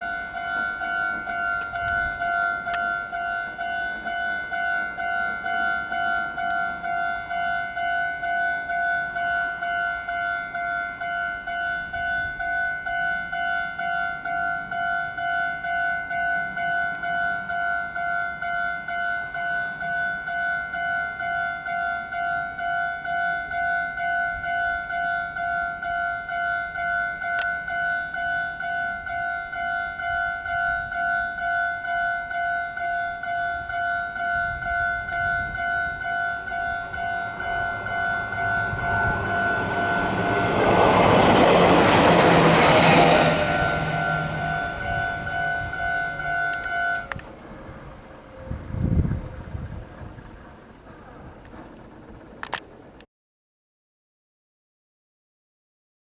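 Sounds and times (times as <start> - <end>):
level crossing bell ringing: 0.0 - 48.5.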